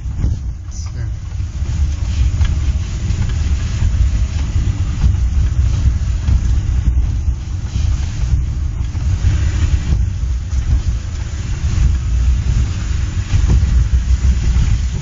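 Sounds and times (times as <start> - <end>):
engine and road rumble in car: 0.0 - 15.0.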